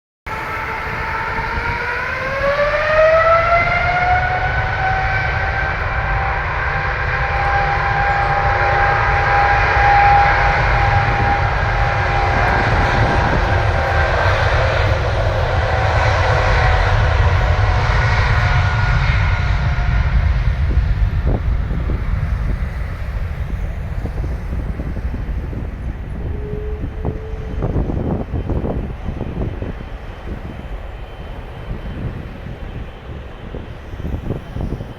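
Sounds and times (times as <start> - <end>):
jet engine deep rumble: 0.3 - 34.9
jet engine whine: 0.3 - 34.9.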